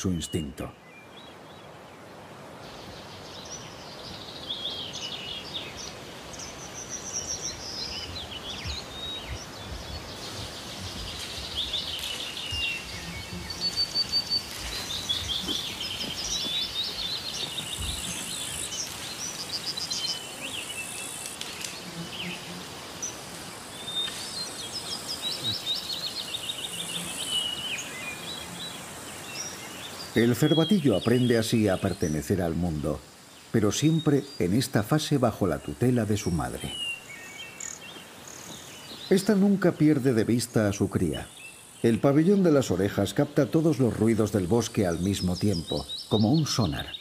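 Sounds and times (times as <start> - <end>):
outdoor background noise: 0.0 - 47.0
songbirds chirping and trilling: 0.0 - 47.0.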